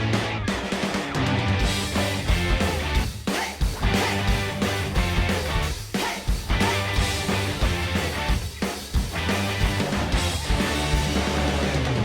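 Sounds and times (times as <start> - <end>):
rock instrumental music: 0.0 - 12.0.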